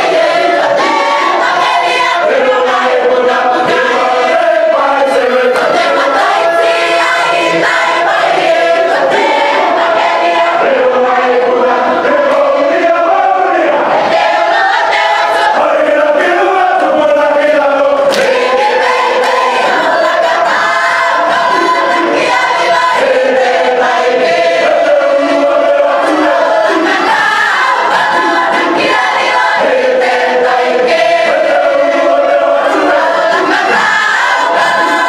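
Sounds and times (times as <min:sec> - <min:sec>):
choir singing a hymn: 0:00.0 - 0:35.0.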